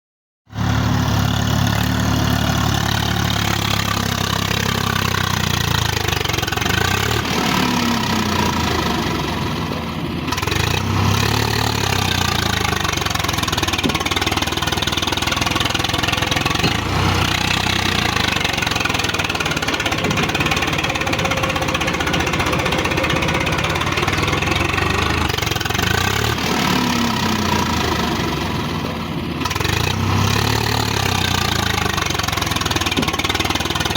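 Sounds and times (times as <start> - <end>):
diesel tractor engine revving: 0.5 - 33.9.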